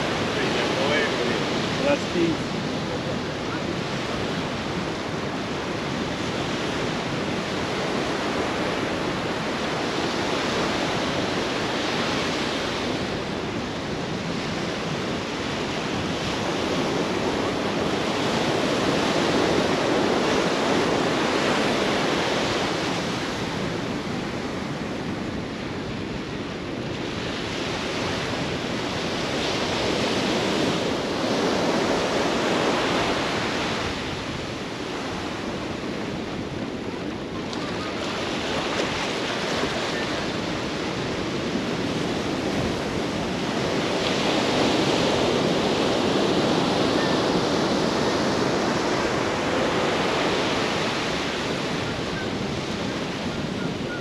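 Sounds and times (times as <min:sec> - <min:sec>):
surf washing onto beach: 0:00.0 - 0:54.0.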